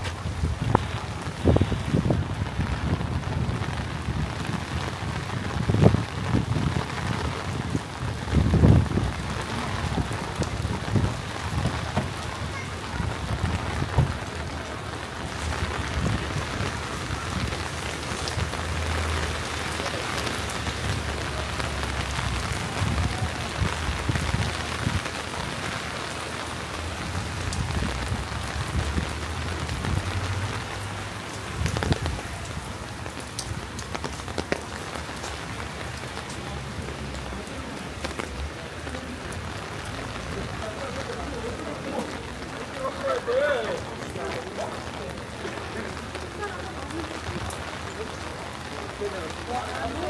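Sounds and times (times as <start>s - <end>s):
rain hissing on hard surfaces: 0.0s - 50.0s.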